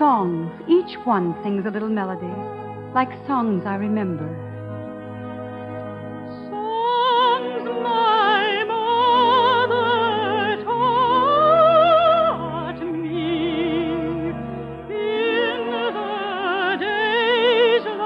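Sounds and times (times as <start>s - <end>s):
operatic singing with vibrato: 0.0s - 18.0s
soft orchestral accompaniment: 0.0s - 18.0s.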